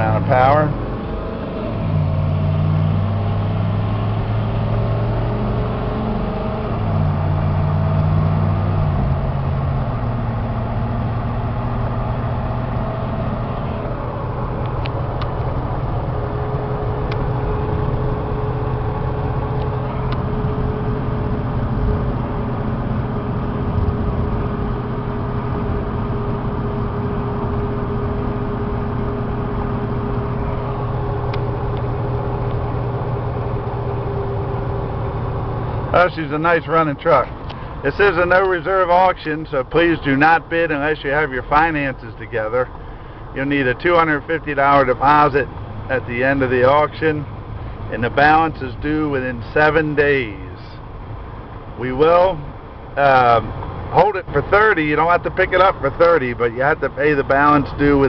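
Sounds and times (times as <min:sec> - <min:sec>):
diesel engine running: 0:00.0 - 0:58.0
road noise: 0:00.0 - 0:58.0.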